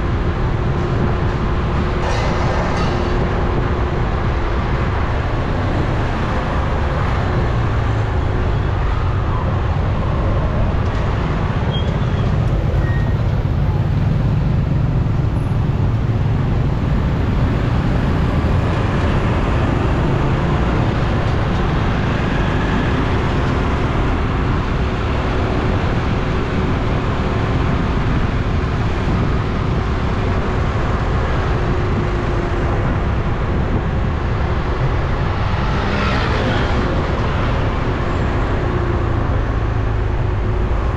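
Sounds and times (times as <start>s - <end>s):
motorbike road noise: 0.0s - 40.9s.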